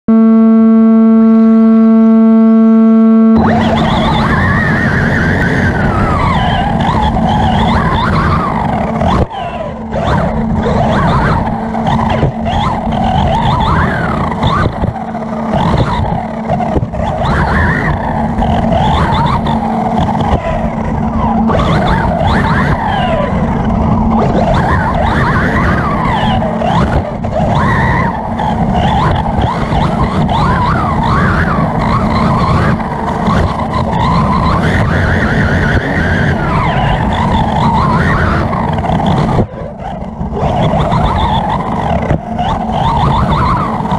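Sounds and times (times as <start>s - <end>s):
electric motor whining: 0.1s - 43.9s
drivetrain and tyres rumbling on dirt: 3.4s - 43.9s.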